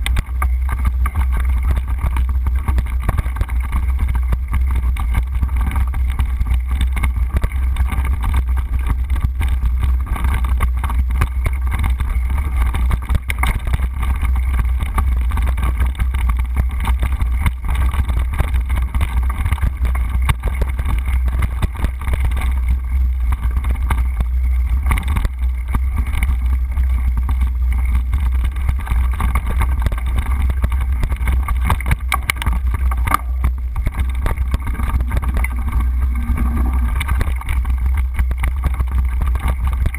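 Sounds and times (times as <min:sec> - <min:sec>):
bike rattles and knocks: 0:00.0 - 0:39.9
tyres rumbling on dirt: 0:00.0 - 0:39.9
wind on microphone: 0:00.0 - 0:39.9.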